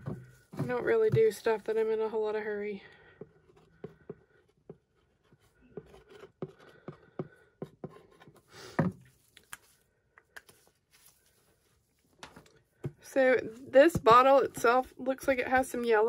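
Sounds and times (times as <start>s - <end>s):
plastic bottles tapping and rubbing: 0.0s - 2.0s, 3.0s - 16.0s.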